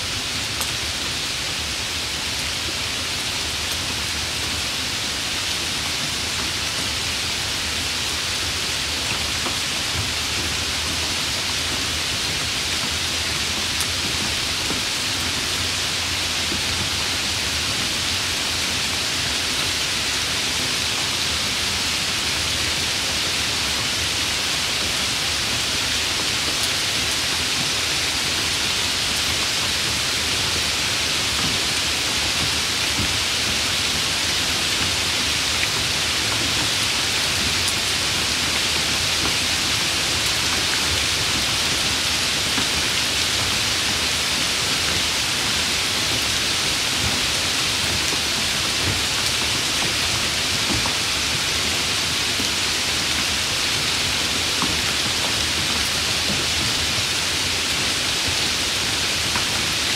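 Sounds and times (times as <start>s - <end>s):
stream pouring over a weir: 0.0s - 59.9s.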